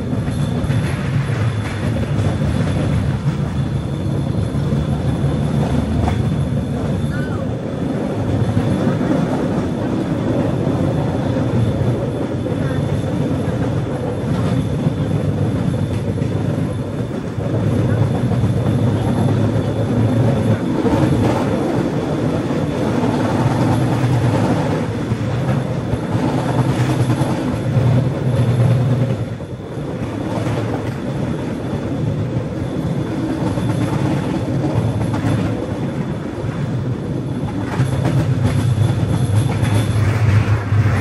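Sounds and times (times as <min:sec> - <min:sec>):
wheels rattling on rails: 0:00.0 - 0:41.0.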